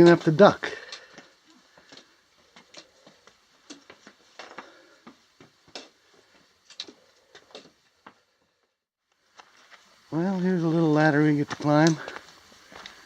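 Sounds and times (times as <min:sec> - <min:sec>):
footsteps on rock and grit: 0:00.0 - 0:08.2, 0:09.2 - 0:10.1, 0:11.3 - 0:13.0.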